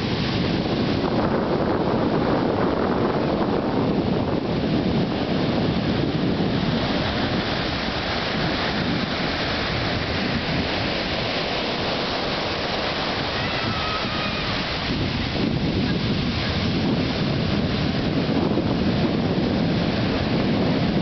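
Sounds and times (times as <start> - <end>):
ocean surf breaking: 0.0 - 21.0
wind on microphone: 0.0 - 21.0.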